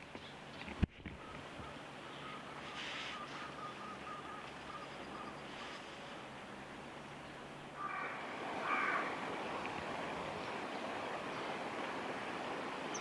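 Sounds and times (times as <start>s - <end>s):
river water rushing: 1.3s - 13.0s.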